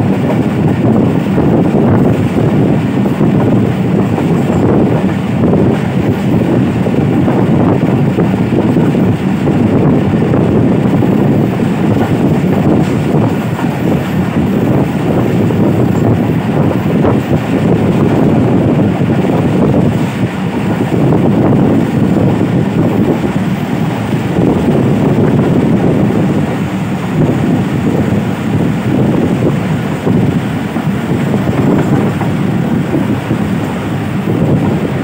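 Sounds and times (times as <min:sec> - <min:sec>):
train wheels on track: 0:00.0 - 0:35.0
wind on microphone: 0:00.0 - 0:35.0.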